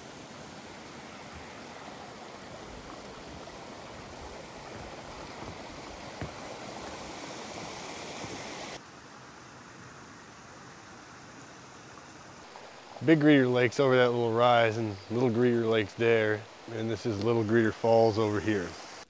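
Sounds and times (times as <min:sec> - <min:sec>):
stream rushing over waterfall: 0:00.0 - 0:19.0.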